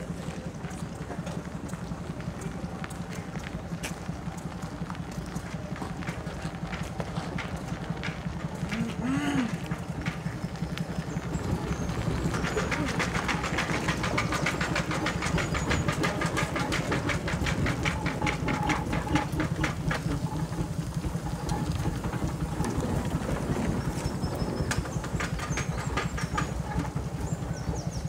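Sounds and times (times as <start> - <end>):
steam traction engine running: 0.0 - 28.0.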